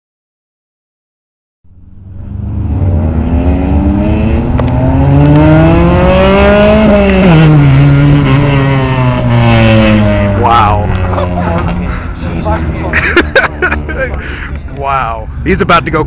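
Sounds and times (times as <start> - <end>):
loud car exhaust accelerating: 1.7 - 14.7.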